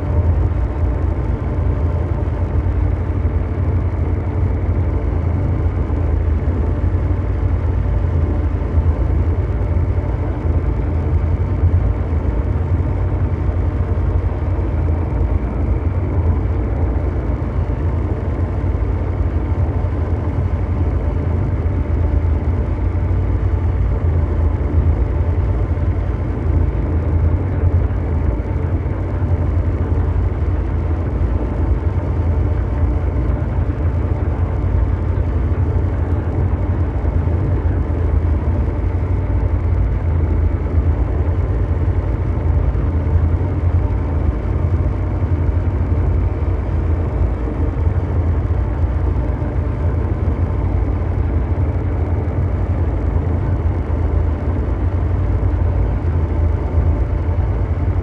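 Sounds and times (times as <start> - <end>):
faint hum tones: 0.0 - 58.0
mechanical drone rumble: 0.0 - 58.0.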